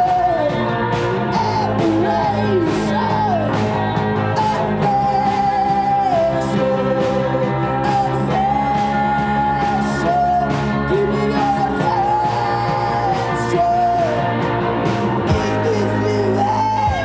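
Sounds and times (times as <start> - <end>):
bass guitar: 0.0 - 17.0
drums with cymbal hits: 0.0 - 17.0
electric guitar: 0.0 - 17.0.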